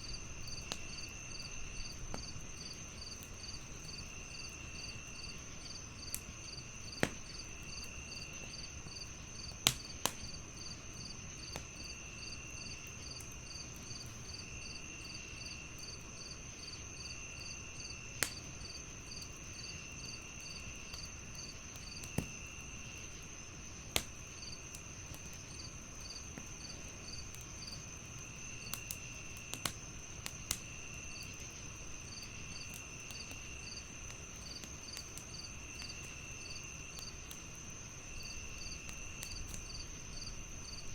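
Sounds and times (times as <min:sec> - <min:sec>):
fire pops: 0:00.0 - 0:12.0, 0:18.1 - 0:19.7, 0:20.4 - 0:40.9
rapid pulsing cricket chirps: 0:00.0 - 0:40.9
wood fire crackling: 0:00.0 - 0:40.9.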